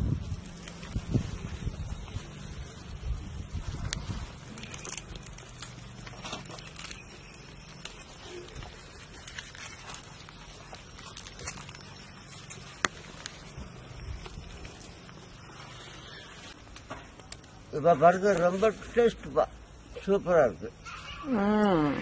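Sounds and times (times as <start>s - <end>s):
rustling of wrappers: 0.2s - 19.4s.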